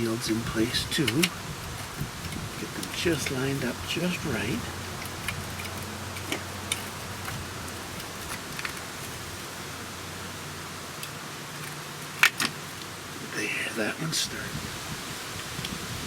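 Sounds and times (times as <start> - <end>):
steady hiss and low hum: 0.0 - 16.0.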